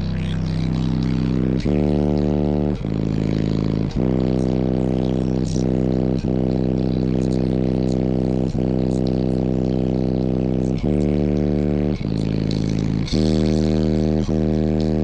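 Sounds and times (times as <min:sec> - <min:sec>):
subwoofers playing held bass notes: 0:00.0 - 0:15.0.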